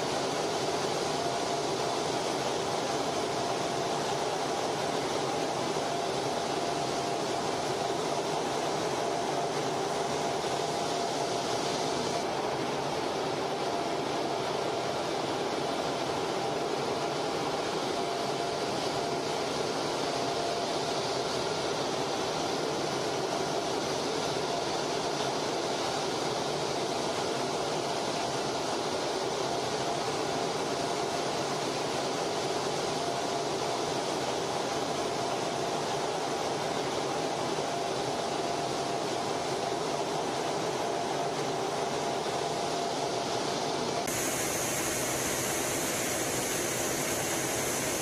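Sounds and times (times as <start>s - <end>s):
jet engine and airflow rush: 0.0s - 48.0s.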